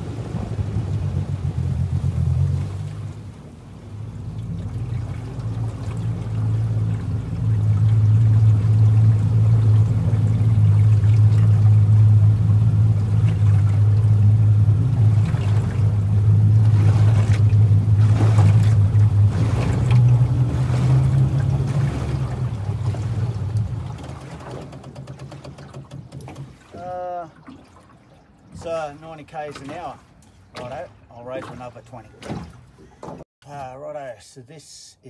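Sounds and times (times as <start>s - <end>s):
outboard motor humming: 0.0s - 33.6s
water splashing against hull: 0.0s - 33.8s.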